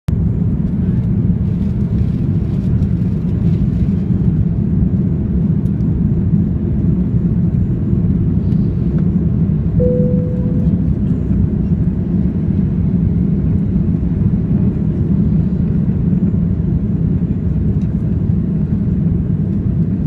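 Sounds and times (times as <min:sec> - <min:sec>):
airliner engines rumbling: 0:00.1 - 0:20.0.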